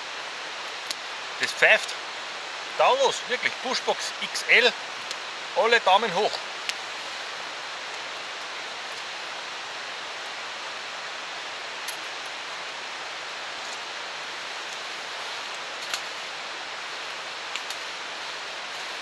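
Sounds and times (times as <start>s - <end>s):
rushing outdoor background noise: 0.0s - 19.0s.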